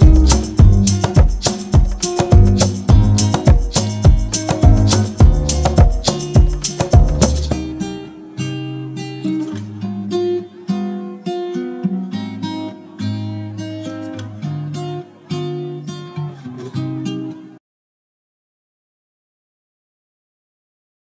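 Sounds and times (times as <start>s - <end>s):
acoustic guitar strumming chords: 0.0s - 17.6s.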